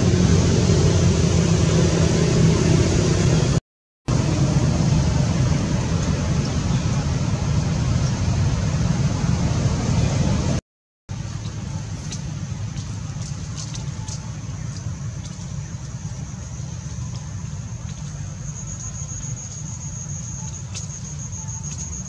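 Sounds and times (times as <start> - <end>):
low rumble: 0.0 - 19.8.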